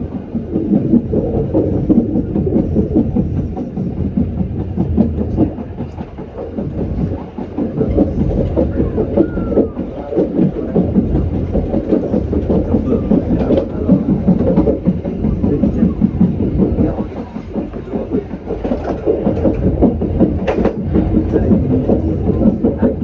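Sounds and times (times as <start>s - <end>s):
clacks from rail joints: 0.0s - 23.0s
train wheels rumbling on track: 0.0s - 23.0s.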